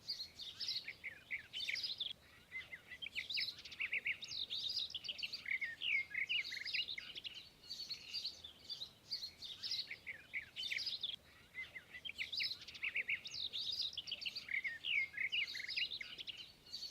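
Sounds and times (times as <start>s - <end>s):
birds chirping and singing: 0.0s - 16.9s.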